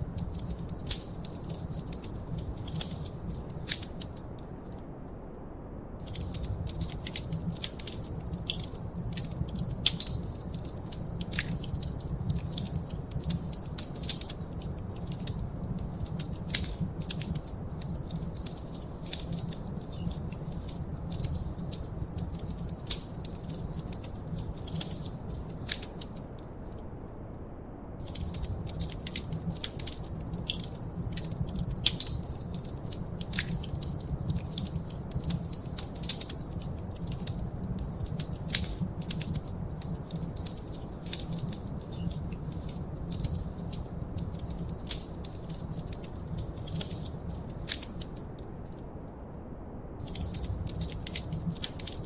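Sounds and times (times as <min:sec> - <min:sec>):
wood fire crackling: 0:00.0 - 0:05.0, 0:06.0 - 0:27.1, 0:28.0 - 0:49.3, 0:50.0 - 0:52.0.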